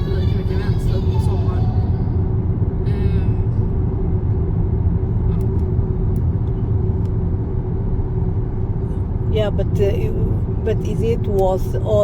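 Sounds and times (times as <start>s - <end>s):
car engine and road rumble: 0.0s - 12.0s
steady low hum: 0.0s - 12.0s.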